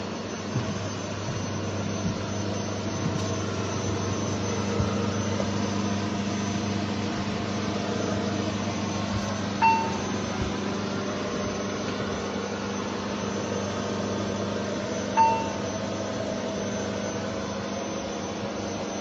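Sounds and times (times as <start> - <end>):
jet engines droning: 0.0 - 19.0.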